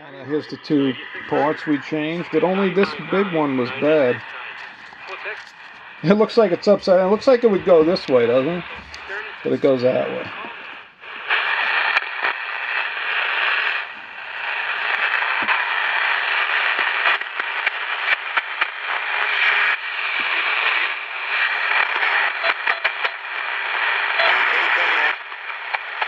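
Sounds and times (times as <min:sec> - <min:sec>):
radio static hiss: 0:00.0 - 0:26.0
crackles and clicks: 0:00.5 - 0:26.0.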